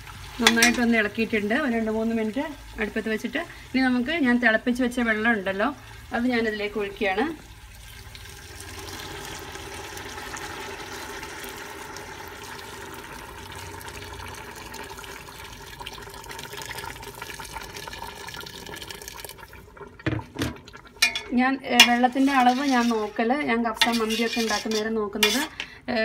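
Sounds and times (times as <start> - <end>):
water pouring into a metal pot: 0.0 - 4.1, 5.0 - 25.6.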